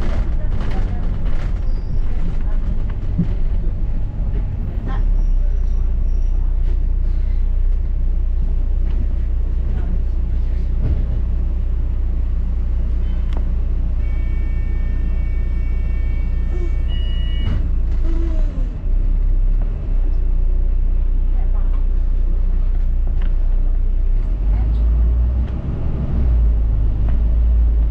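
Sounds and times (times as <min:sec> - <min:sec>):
bus engine and road rumble: 0:00.0 - 0:27.9.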